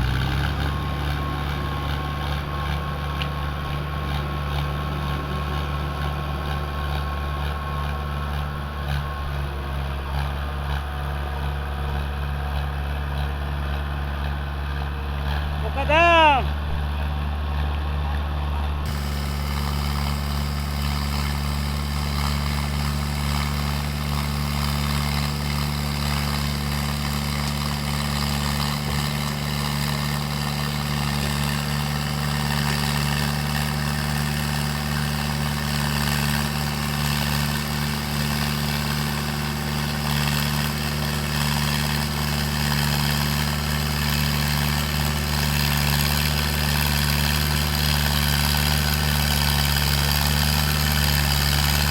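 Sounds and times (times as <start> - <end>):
tractor diesel engine idling: 0.0 - 51.9.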